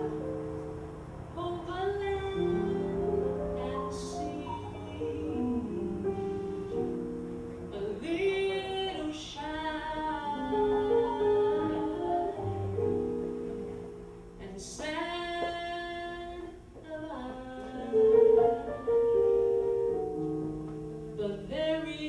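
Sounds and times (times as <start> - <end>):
sustained keyboard chords: 0.0 - 8.9, 9.5 - 14.4, 17.8 - 22.0
woman singing jazz ballad: 0.0 - 22.0.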